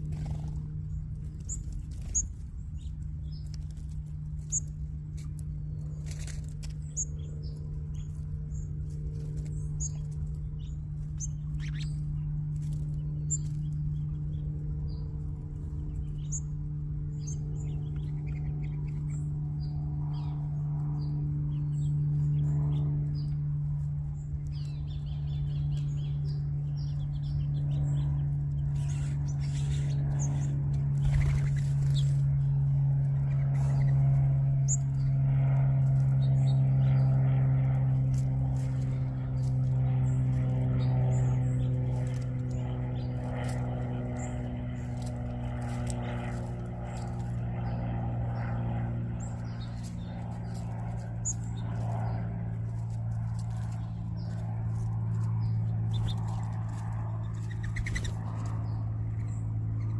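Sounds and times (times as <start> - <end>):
low mechanical hum: 0.0 - 59.9
small birds chirping: 0.0 - 59.9.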